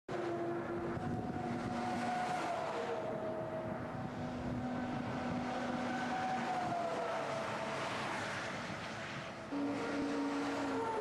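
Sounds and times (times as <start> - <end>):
truck engine drone: 0.1 - 11.0.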